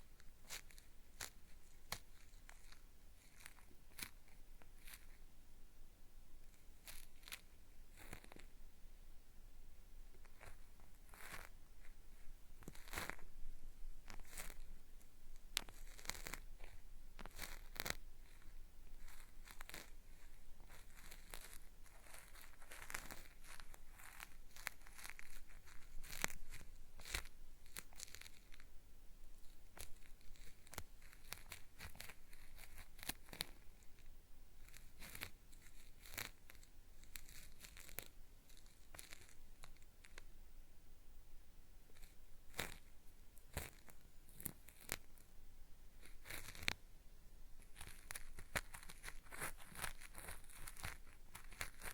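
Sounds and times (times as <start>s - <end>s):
cotton swab scraping microphone: 0.0s - 5.2s, 6.4s - 8.6s, 10.2s - 28.7s, 29.4s - 40.3s, 41.9s - 45.3s, 45.9s - 46.8s, 47.6s - 51.9s.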